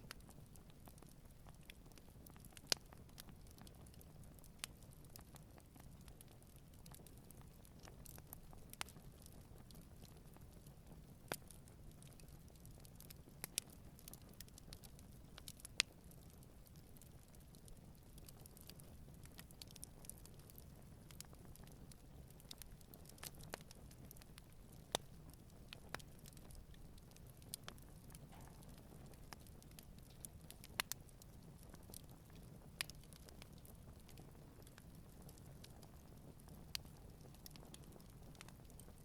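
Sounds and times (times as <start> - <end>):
campfire crackling and popping: 0.0 - 39.0
low rumble of fire: 0.0 - 39.0.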